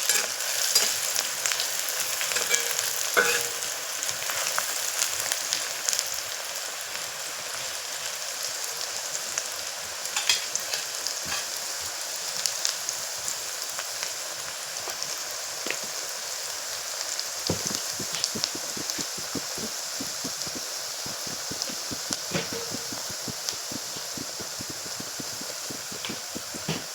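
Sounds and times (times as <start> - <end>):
food sizzling in oil: 0.0 - 26.9.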